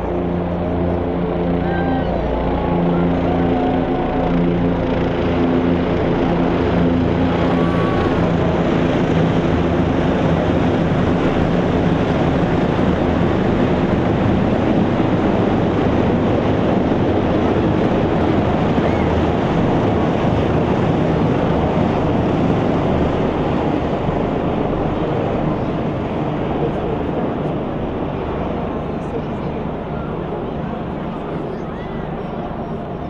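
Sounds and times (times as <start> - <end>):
helicopters droning overhead: 0.0 - 33.0.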